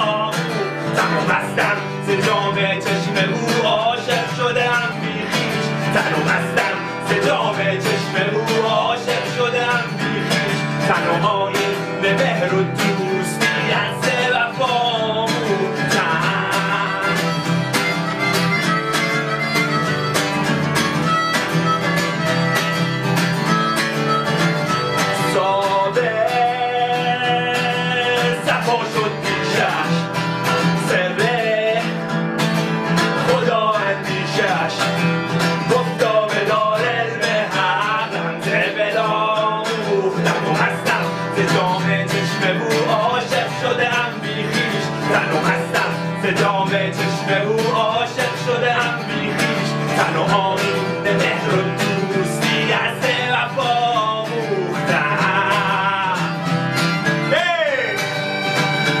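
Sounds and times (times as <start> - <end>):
acoustic guitar strumming: 0.0 - 59.0
harmonica melody: 0.0 - 59.0.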